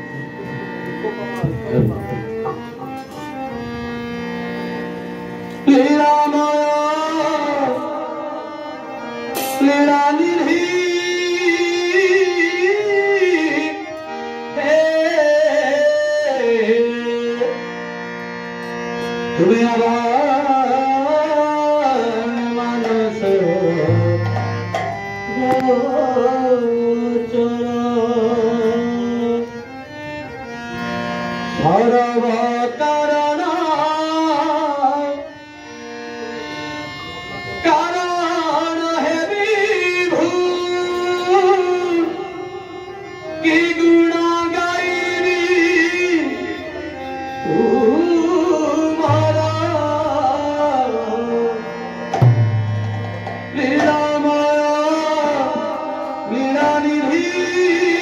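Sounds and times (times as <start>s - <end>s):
harmonium held tones: 0.0s - 58.0s
man singing devotional song: 5.5s - 30.4s, 31.3s - 36.5s, 37.6s - 58.0s.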